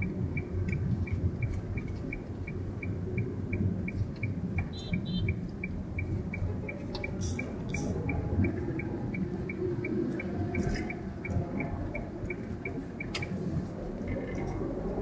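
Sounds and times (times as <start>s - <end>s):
car engine and road rumble: 0.0s - 15.0s
turn signal ticking: 0.0s - 15.0s.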